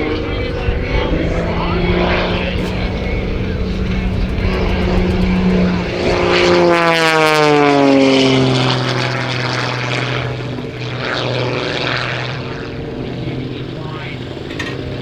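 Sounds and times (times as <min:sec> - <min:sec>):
biplane engine and propeller passing: 0:00.0 - 0:15.0.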